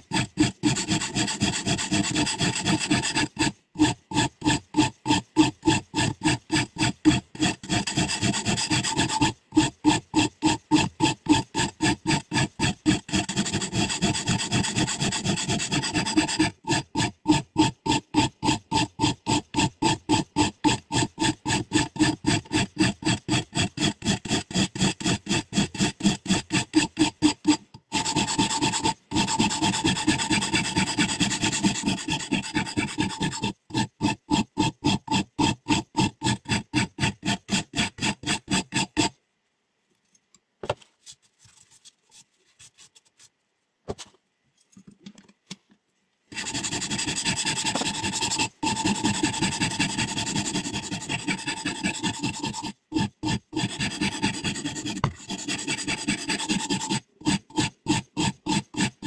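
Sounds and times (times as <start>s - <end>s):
stone rasping on scissor blade: 0.0s - 39.2s, 46.3s - 59.0s.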